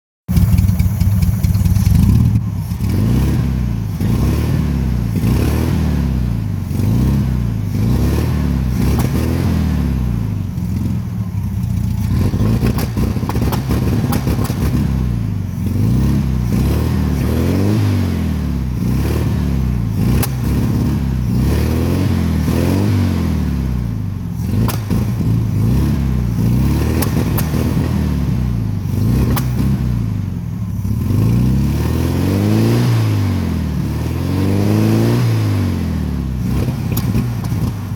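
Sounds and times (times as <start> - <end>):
misfiring car engine: 0.3 - 37.9.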